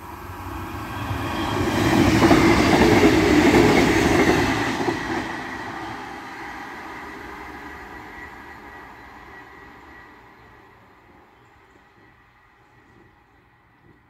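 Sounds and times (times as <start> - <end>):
train wheels clattering on rails: 1.1 - 14.0.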